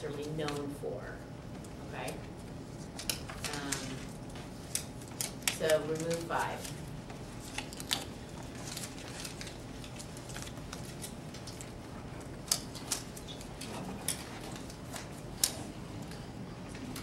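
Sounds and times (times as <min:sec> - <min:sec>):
paper rustling and shuffling: 0:02.4 - 0:17.0.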